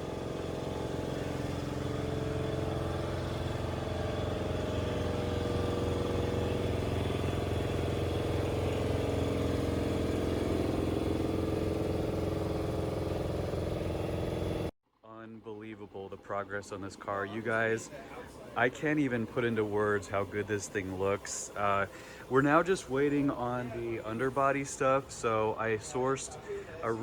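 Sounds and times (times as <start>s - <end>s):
vehicle engine running: 0.0s - 14.7s, 15.8s - 27.0s.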